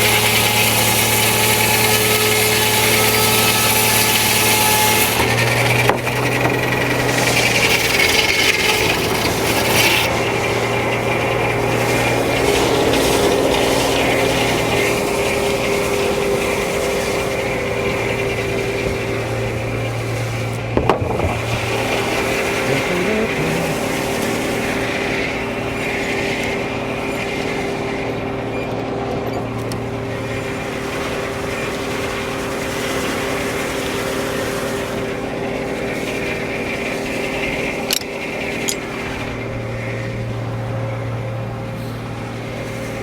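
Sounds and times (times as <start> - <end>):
sawmill running: 0.0 - 43.0.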